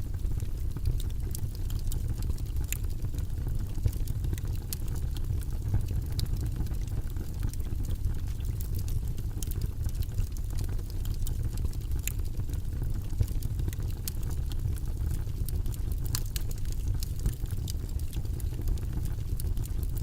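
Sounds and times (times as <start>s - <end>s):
low rumbling white noise: 0.0s - 20.0s
small irregular clicks: 0.0s - 20.0s.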